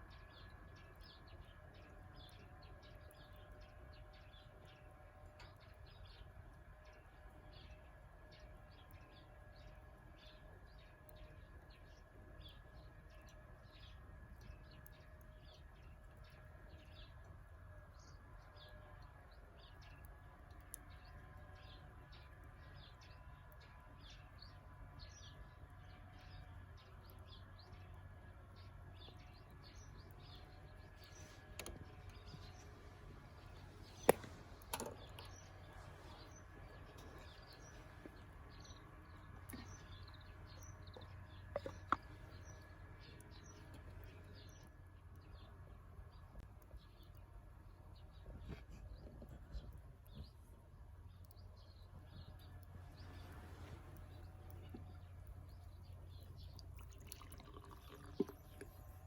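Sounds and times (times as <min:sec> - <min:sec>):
low steady rumble: 0:00.0 - 0:59.0
small birds chirping: 0:00.0 - 0:59.0.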